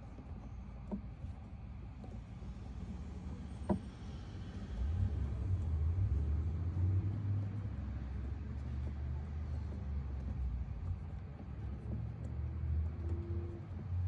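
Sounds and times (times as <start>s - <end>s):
low vehicle engine rumble: 0.0s - 14.0s.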